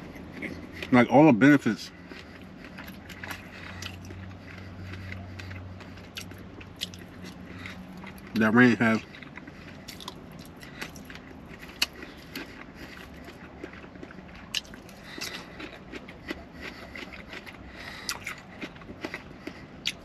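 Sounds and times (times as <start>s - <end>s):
close chewing with wet clicks: 0.0s - 20.0s.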